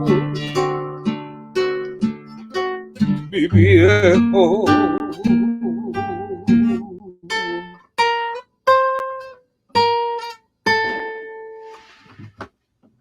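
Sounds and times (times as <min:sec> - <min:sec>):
acoustic guitar strummed chords: 0:00.0 - 0:11.6.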